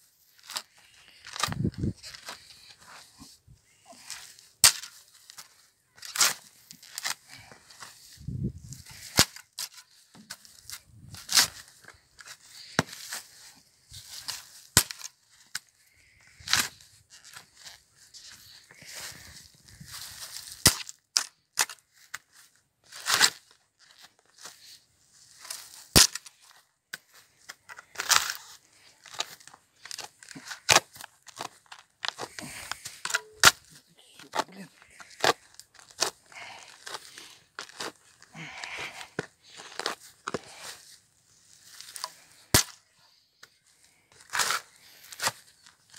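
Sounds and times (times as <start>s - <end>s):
spade digging soil: 0.2s - 21.0s, 24.2s - 42.8s, 43.9s - 45.9s
soil clods crumbling: 0.2s - 42.9s.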